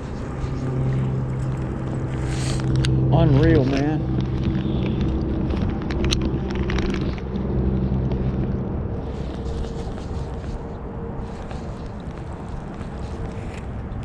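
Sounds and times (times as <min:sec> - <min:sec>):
boat motor humming: 0:00.0 - 0:14.0
wind on microphone: 0:00.0 - 0:14.0.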